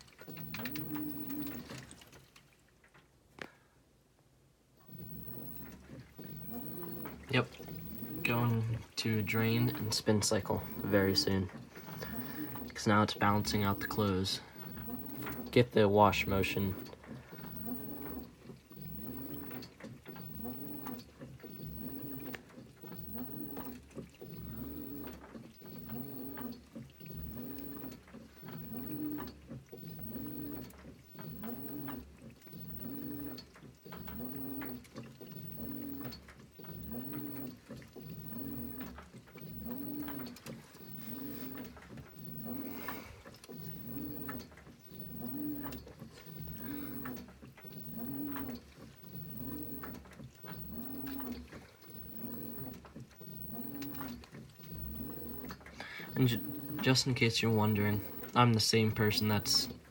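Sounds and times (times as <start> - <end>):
washing machine motor agitating: 0.0 - 2.9, 4.8 - 59.9.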